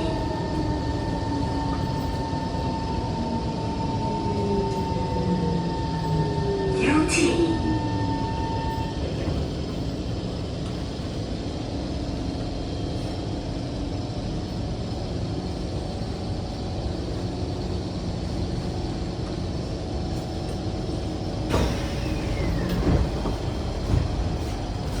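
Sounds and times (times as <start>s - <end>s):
train car rumble and hum: 0.0s - 25.0s.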